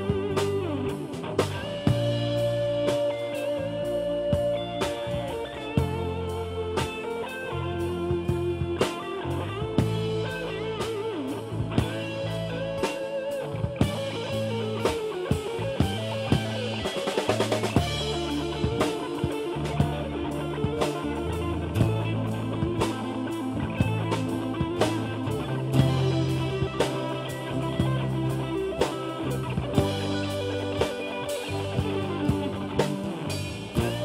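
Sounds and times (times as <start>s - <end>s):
bass guitar: 0.0s - 34.0s
drum kit beat: 0.0s - 34.0s
electric guitar: 0.0s - 34.0s.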